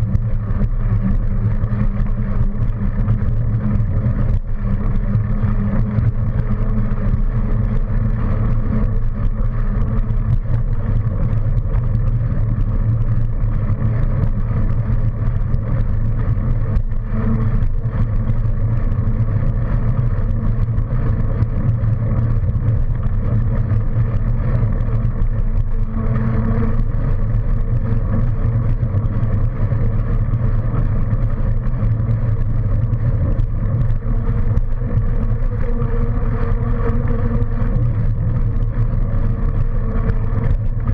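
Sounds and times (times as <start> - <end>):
low hum: 0.0 - 40.9
wind noise: 0.0 - 40.9.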